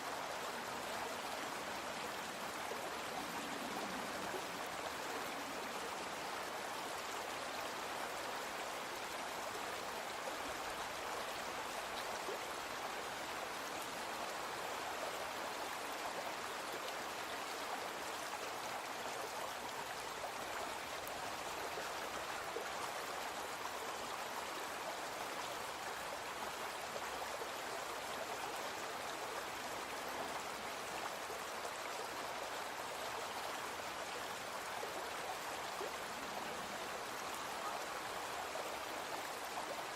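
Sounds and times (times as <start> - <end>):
brook flowing: 0.0 - 39.9.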